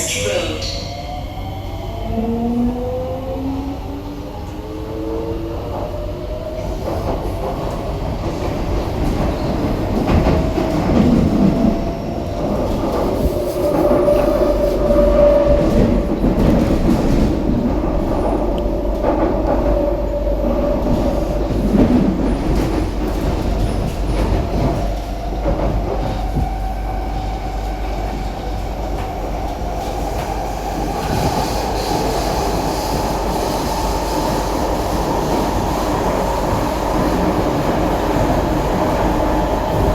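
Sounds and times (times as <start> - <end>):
wheels rumbling and clacking on rails: 1.1 - 39.9.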